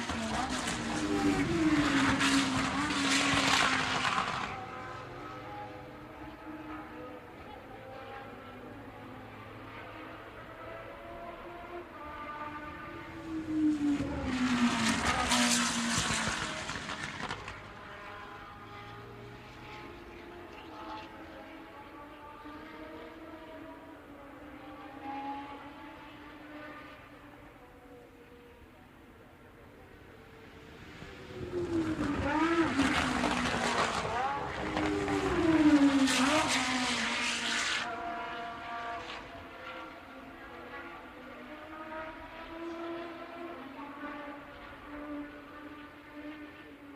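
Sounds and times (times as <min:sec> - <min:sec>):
racing car passing at speed: 0:00.0 - 0:46.9.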